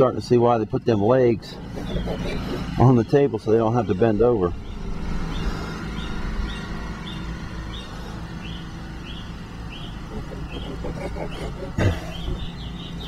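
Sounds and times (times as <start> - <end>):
steady low hum: 0.0 - 13.0
bird chirping: 0.7 - 13.0.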